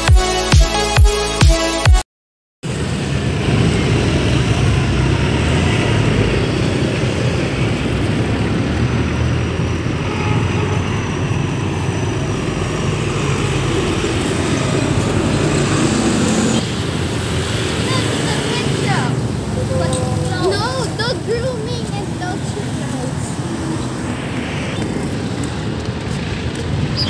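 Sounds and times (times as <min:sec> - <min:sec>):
street traffic rumble: 0:02.6 - 0:27.0.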